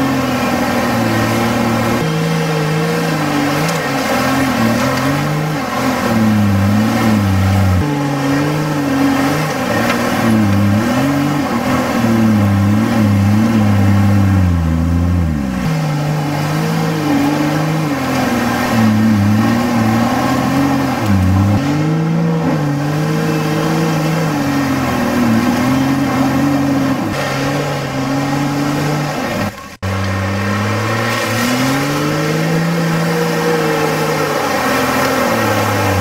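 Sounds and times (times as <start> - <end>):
engine revving under load: 0.0 - 36.0.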